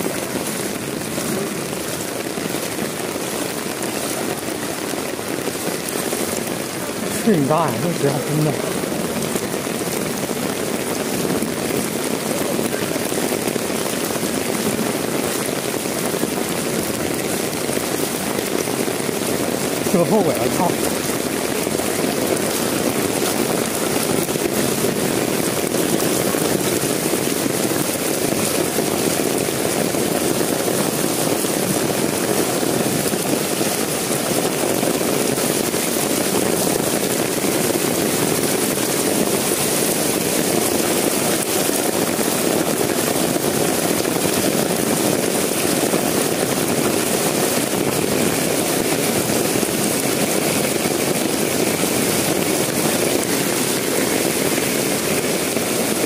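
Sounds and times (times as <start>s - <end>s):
heavy rain on standing water: 0.0s - 56.0s.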